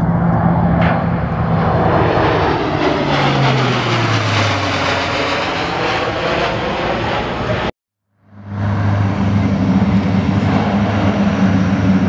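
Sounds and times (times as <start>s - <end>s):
propeller aircraft flying overhead: 0.0s - 12.0s.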